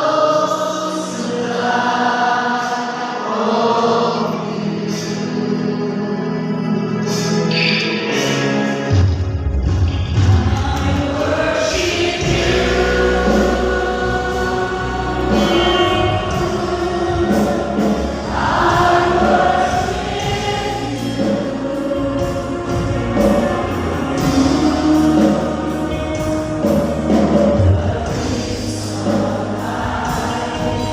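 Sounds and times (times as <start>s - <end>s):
choir singing worship music: 0.0s - 30.9s.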